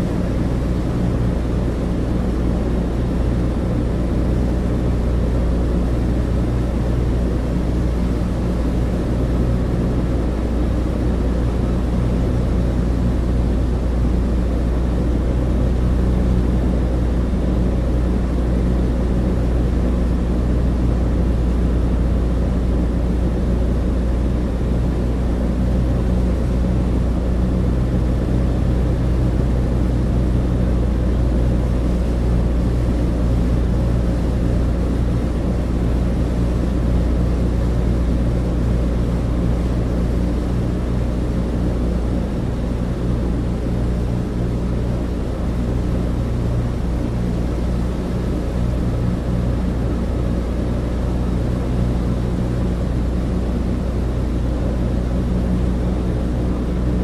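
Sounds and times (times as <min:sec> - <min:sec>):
propeller engines droning: 0:00.0 - 0:57.0.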